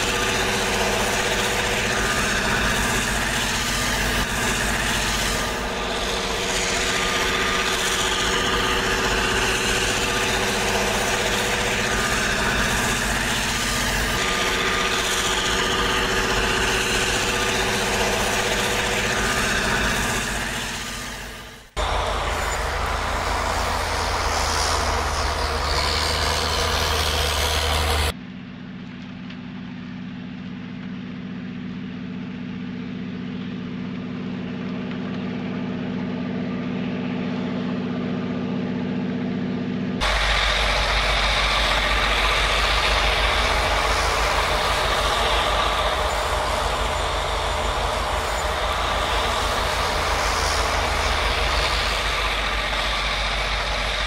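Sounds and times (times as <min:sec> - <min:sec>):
snow blower rushing noise: 0:00.0 - 0:28.2, 0:33.9 - 0:54.0
heavy diesel engines: 0:00.0 - 0:54.0.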